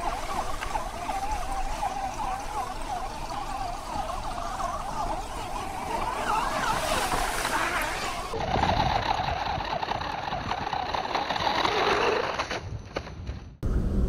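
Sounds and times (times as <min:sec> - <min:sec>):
tyre noise: 0:00.0 - 0:13.5.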